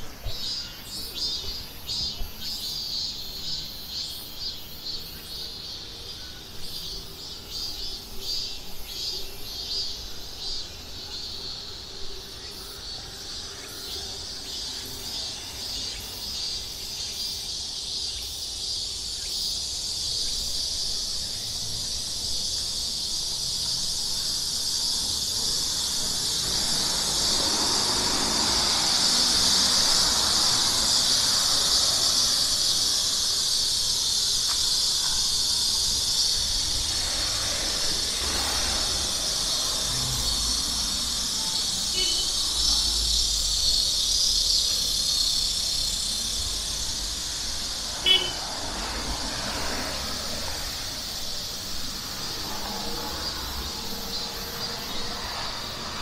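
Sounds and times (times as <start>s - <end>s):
insects buzzing shrilly: 0.0s - 56.0s.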